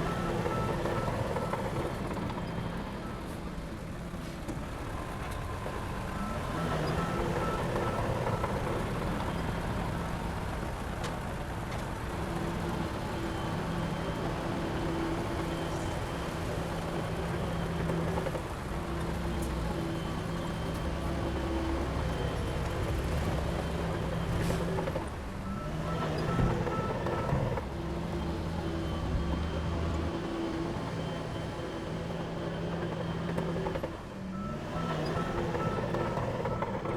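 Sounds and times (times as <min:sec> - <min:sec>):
heavy diesel engine running: 0:00.0 - 0:36.9.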